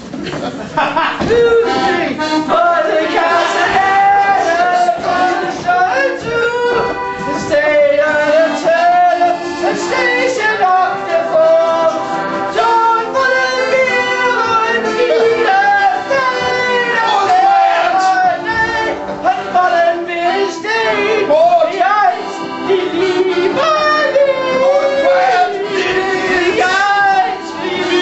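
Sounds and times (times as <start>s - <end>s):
musical accompaniment: 0.0s - 28.0s
person singing: 1.2s - 28.0s.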